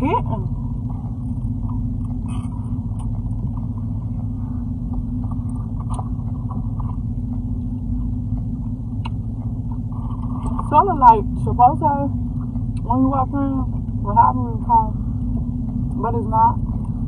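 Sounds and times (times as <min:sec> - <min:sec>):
car cabin rumble: 0:00.0 - 0:17.0.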